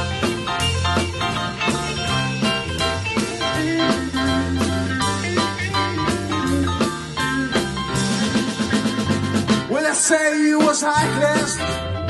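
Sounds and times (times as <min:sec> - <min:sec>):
bass guitar: 0:00.0 - 0:12.0
drum kit steady beat: 0:00.0 - 0:12.0
electric guitar: 0:00.0 - 0:12.0
keyboard: 0:00.0 - 0:12.0.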